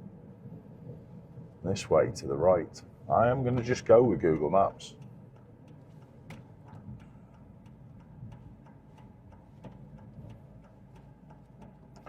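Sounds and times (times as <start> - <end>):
low hum of moving car: 0.0 - 12.0
turn signal ticking: 0.5 - 12.0.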